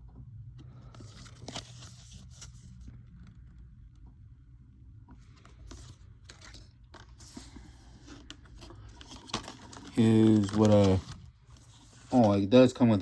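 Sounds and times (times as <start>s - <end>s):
cards and packaging rustling: 0.6s - 3.7s, 5.2s - 13.0s.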